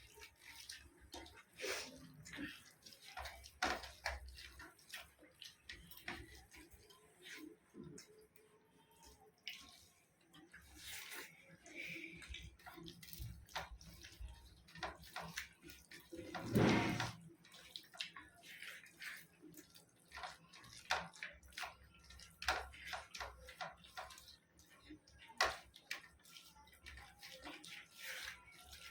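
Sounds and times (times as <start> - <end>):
wet eating and mouth smacking: 0.0 - 28.9.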